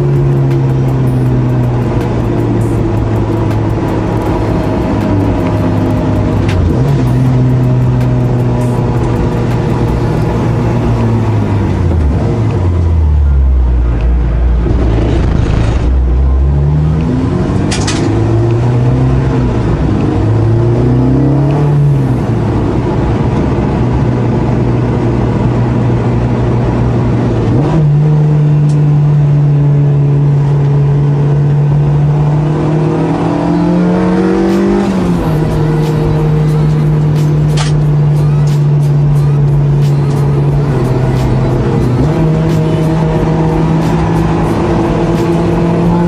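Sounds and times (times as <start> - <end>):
car engine revving through gears: 0.0 - 26.0, 30.4 - 46.0.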